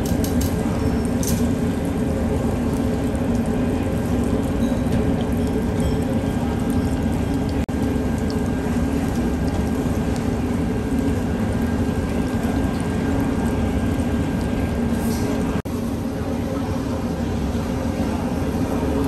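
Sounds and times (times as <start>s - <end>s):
low rumbling kitchen noise: 0.0s - 19.0s.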